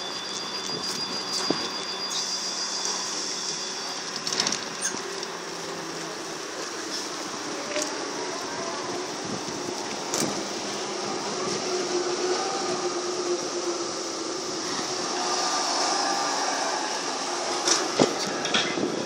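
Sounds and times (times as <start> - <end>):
street noise: 0.0 - 19.0
trolleybus electric drive whining: 0.0 - 19.0.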